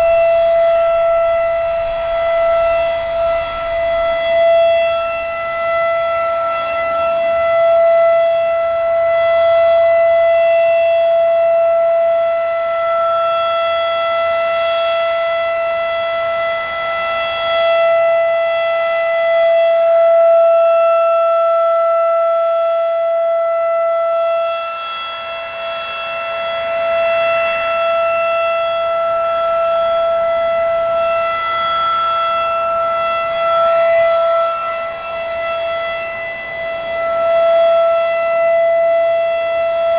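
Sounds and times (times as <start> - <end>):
steady warning siren tone: 0.0 - 39.9.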